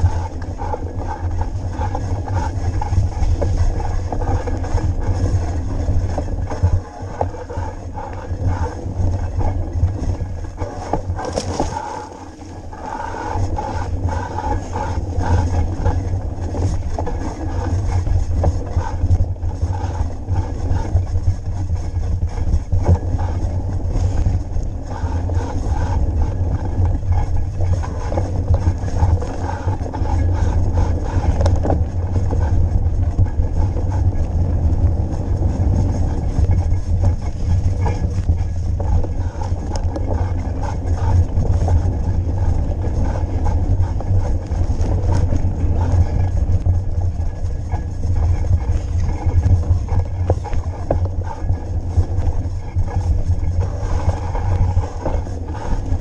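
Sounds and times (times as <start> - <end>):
bicycle tyre noise: 0.0 - 56.0
bike rattling: 0.0 - 56.0
wind rumble on microphone: 0.0 - 56.0.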